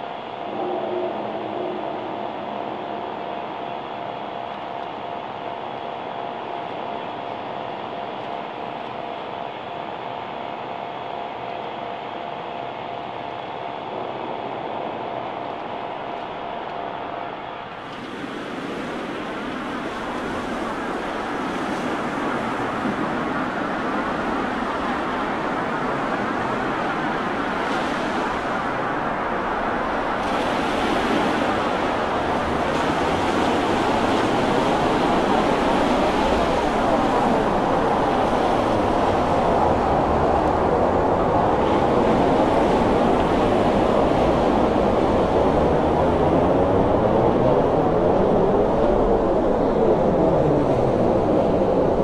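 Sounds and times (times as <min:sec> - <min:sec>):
sea waves and surf: 0:00.0 - 0:07.0, 0:13.2 - 0:52.0.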